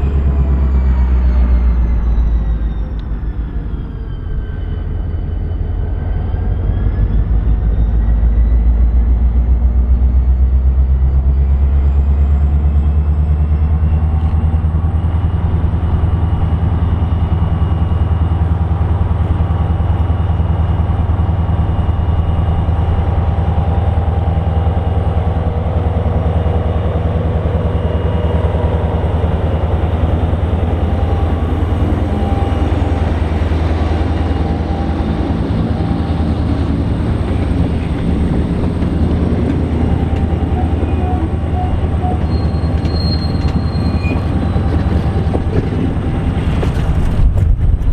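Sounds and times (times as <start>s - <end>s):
locomotive rumbling: 0.0s - 47.9s.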